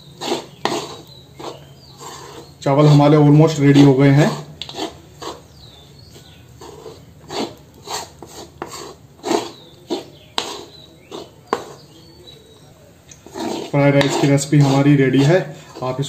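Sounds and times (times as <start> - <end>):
wooden spatula scraping a metal pan: 0.0 - 12.3, 13.1 - 16.0.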